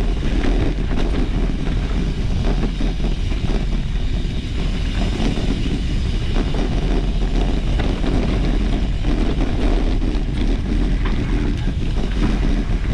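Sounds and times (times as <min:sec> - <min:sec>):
mountain bike rumbling on trail: 0:00.0 - 0:12.9
wind buffeting microphone: 0:00.0 - 0:12.9.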